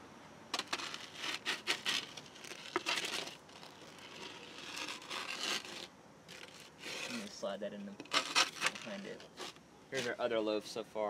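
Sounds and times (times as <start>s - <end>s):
wooden peel scraping oven floor: 0.6s - 10.1s.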